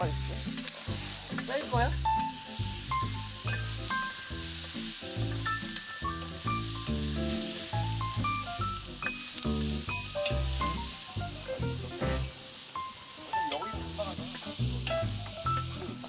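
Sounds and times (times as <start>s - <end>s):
background music with bass notes: 0.0s - 12.6s, 13.2s - 16.0s
vegetables sizzling in oil: 0.0s - 16.0s.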